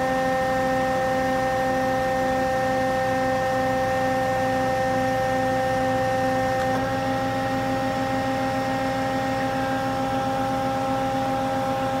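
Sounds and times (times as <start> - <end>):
band saw machine whine: 0.0 - 12.0.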